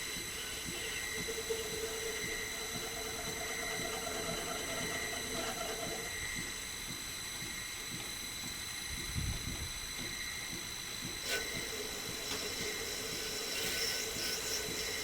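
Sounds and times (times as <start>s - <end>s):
lathe motor whining: 0.0s - 8.9s, 9.7s - 15.0s.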